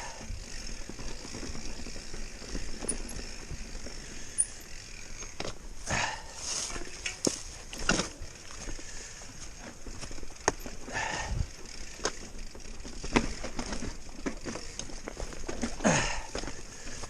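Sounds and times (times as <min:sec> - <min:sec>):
bike rattling over rocks: 0:00.0 - 0:17.0.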